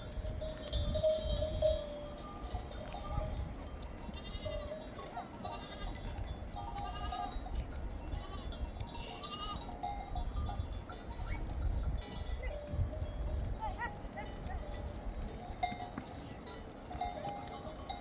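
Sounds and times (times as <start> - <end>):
sheep and goats bleating: 0.0 - 14.9
animal bells clanking: 0.0 - 18.0.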